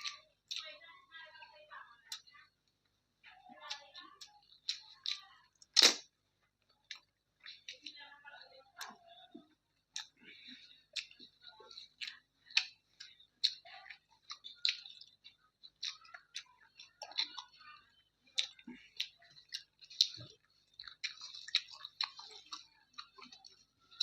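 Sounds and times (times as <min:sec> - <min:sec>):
chewing with wet mouth clicks: 0:00.0 - 0:00.7, 0:02.1 - 0:02.9, 0:03.5 - 0:08.1, 0:08.7 - 0:24.0.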